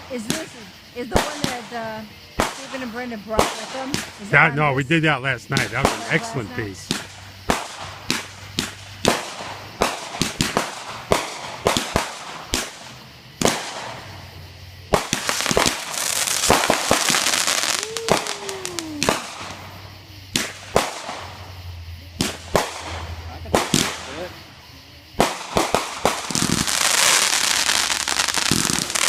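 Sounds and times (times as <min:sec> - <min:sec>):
fireworks bangs and pops: 0:00.0 - 0:21.6, 0:22.2 - 0:24.5, 0:25.2 - 0:29.0
fireworks crackling: 0:00.0 - 0:29.0.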